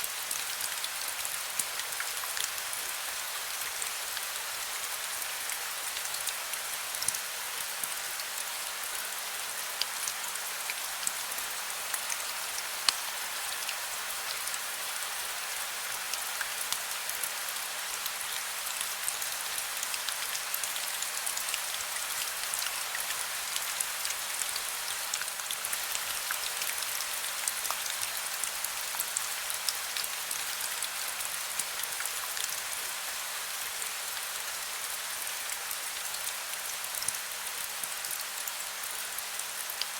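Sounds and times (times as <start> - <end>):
raindrops ticking on a surface: 0.1 - 39.9.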